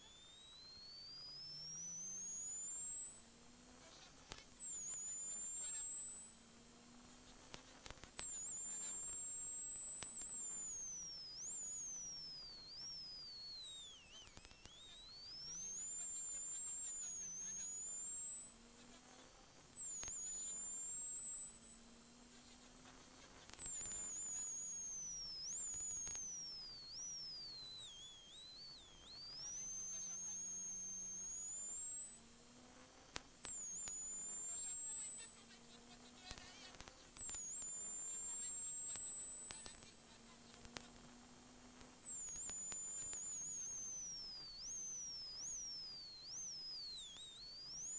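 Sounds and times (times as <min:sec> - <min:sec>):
high whine: 0:00.0 - 0:47.9.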